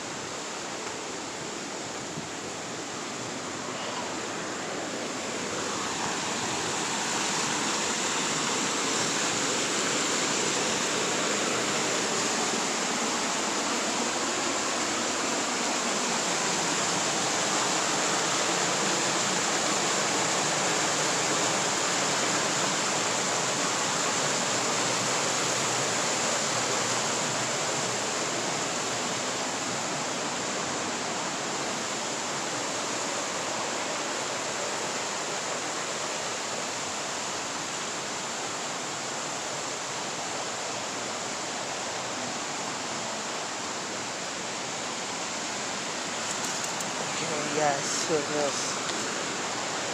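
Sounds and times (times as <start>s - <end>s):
creek water rushing: 0.0s - 49.9s.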